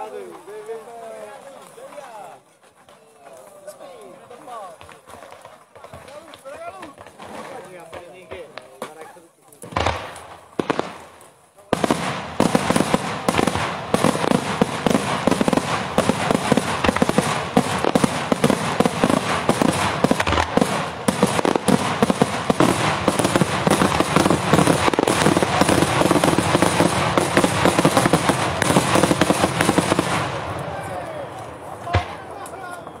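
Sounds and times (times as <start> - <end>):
fireworks bangs and crackling: 1.0 - 33.0.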